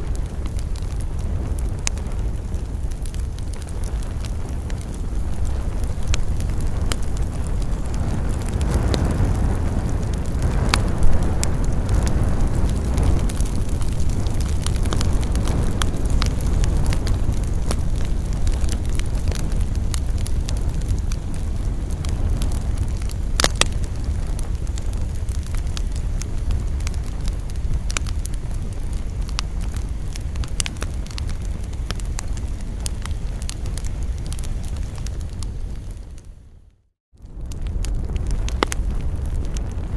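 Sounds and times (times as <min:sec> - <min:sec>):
fire crackles and pops: 0:00.0 - 0:39.9
fire low rumble: 0:00.0 - 0:39.9.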